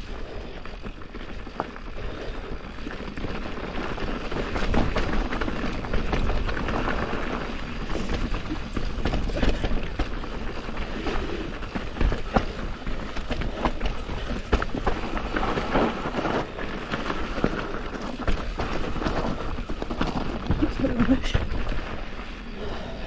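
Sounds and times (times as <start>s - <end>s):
bike rattling over bumps: 0.0s - 23.0s
bike tyres crunching over dirt: 0.0s - 23.0s.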